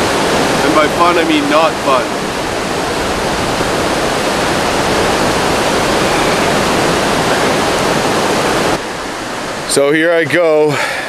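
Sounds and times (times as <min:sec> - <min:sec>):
river rapids rushing over rocks: 0:00.0 - 0:11.0.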